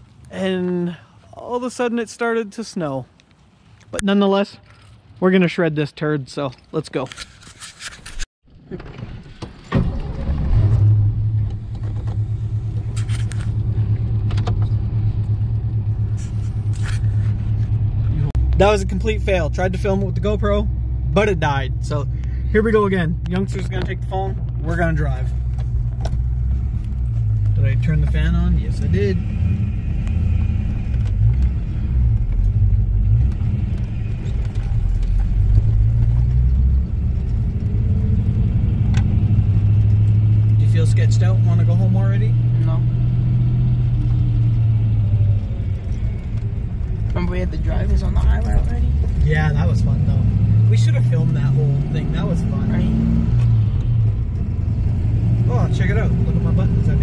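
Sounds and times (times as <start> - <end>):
car engine starting and idling: 8.5 - 57.0.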